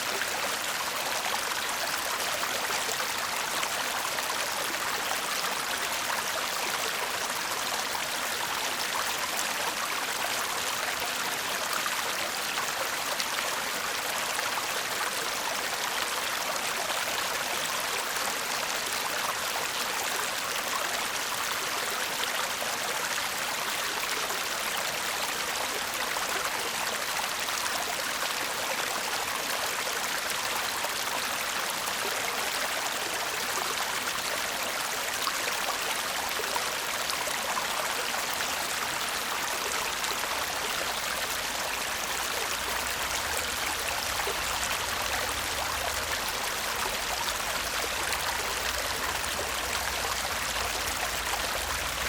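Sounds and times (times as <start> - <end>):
stream babbling over stones: 0.0 - 52.0.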